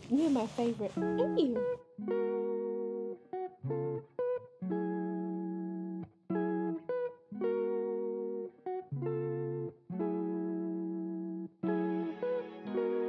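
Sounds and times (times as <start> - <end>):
guitar playing held chords: 0.0 - 13.0.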